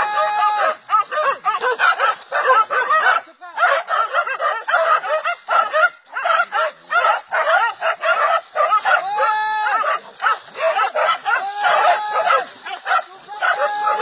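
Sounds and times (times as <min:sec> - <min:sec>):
dogs barking and yelping: 0:00.0 - 0:14.0.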